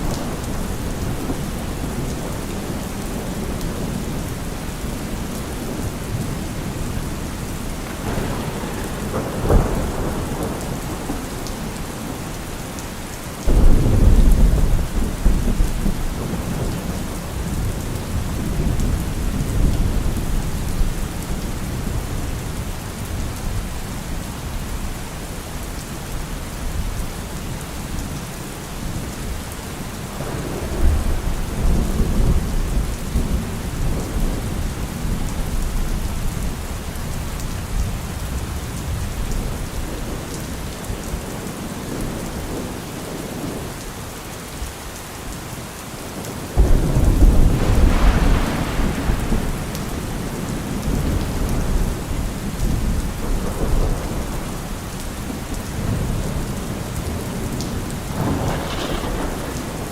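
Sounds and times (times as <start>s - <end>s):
low thunder rumbling: 0.0s - 12.8s, 13.4s - 25.0s, 30.1s - 43.8s, 46.2s - 59.9s
heavy rain on a car roof: 0.0s - 59.9s.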